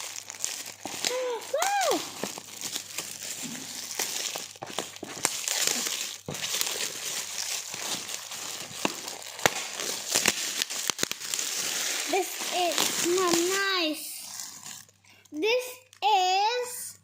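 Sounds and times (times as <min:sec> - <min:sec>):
sharp paper crackles: 0:00.0 - 0:15.0
gift wrap crinkling: 0:00.0 - 0:16.1.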